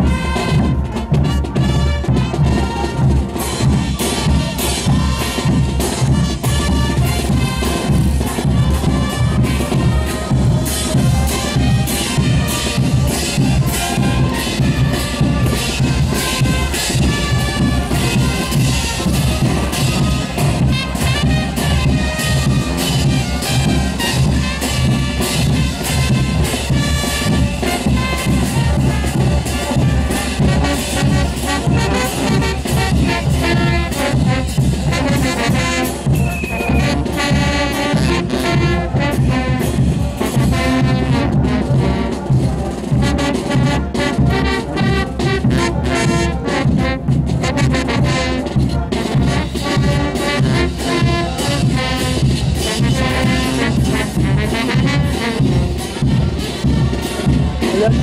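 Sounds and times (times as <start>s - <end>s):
brass band playing dance tune: 0.0s - 58.0s.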